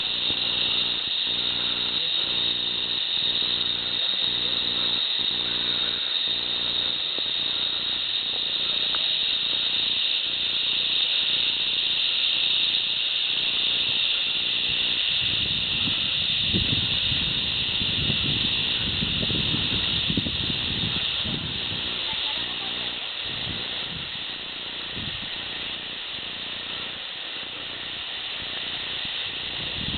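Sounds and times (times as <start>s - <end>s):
insects droning in chorus: 0.0s - 29.9s.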